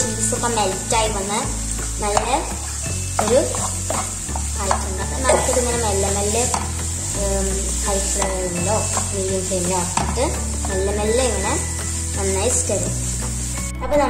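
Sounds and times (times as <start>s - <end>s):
background music with bass line: 0.0s - 14.0s
filling sizzling in a frying pan: 0.0s - 14.0s.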